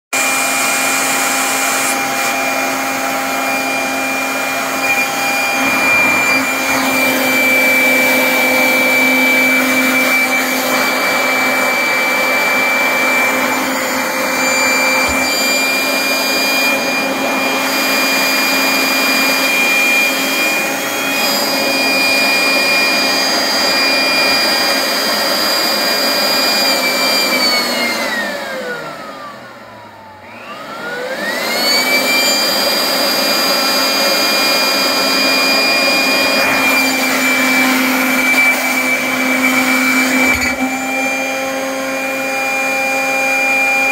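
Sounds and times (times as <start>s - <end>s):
leaf blower whining: 0.1s - 43.9s.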